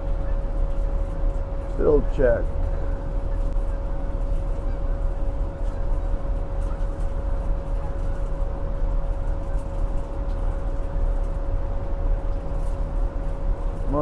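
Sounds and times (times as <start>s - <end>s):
hvac equipment rumble and hum: 0.0s - 14.0s.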